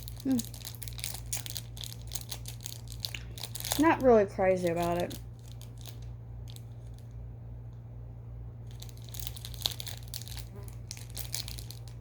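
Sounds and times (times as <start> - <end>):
plastic wrapper crinkling: 0.0 - 7.2, 8.6 - 12.0.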